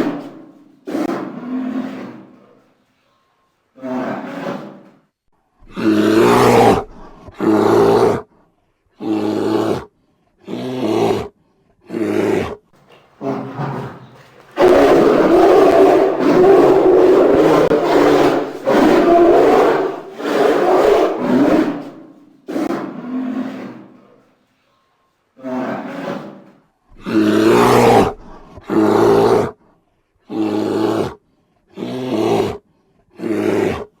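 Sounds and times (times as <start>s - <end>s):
bear roaring: 0.0s - 2.7s, 3.8s - 5.0s, 5.6s - 8.3s, 9.0s - 12.6s, 13.2s - 24.3s, 25.4s - 29.6s, 30.3s - 34.0s.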